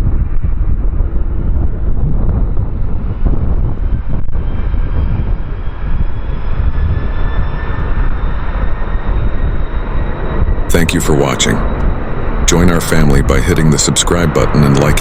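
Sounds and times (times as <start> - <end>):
faint high jet whine: 0.0 - 15.0
jet engines rumbling: 0.0 - 15.0.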